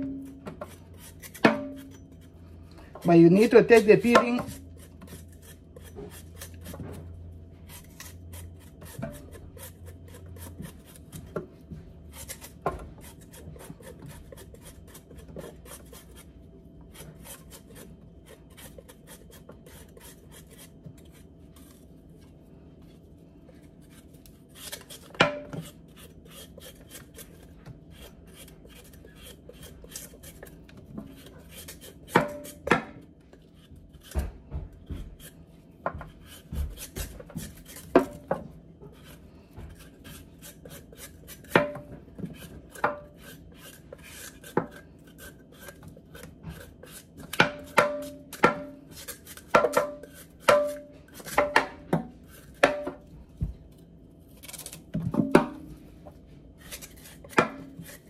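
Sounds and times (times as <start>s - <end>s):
knife scraping vegetable skin: 0.1s - 52.8s, 54.2s - 54.9s, 56.6s - 58.0s.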